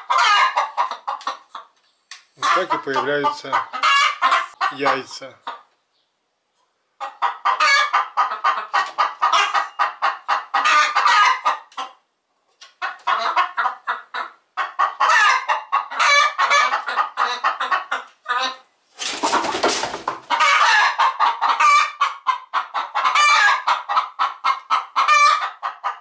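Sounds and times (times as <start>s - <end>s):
hens cackling: 0.0s - 1.8s, 2.4s - 5.8s, 7.0s - 26.0s.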